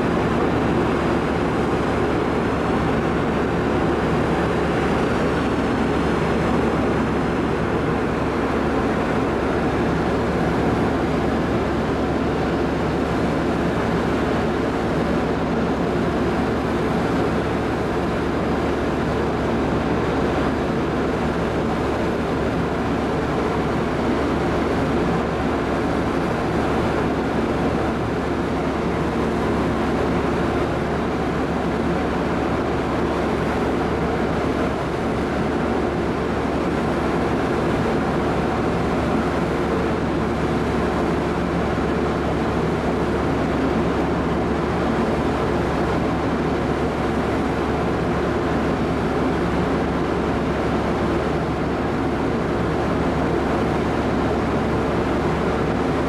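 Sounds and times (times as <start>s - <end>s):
ferry engines rumbling: 0.0s - 56.0s.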